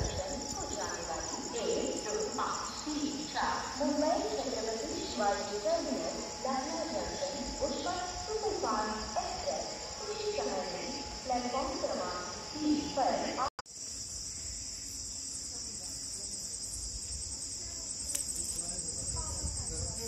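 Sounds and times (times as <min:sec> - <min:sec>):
voices talking: 0:00.0 - 0:13.6, 0:15.4 - 0:20.0
crickets chirping: 0:00.0 - 0:20.0.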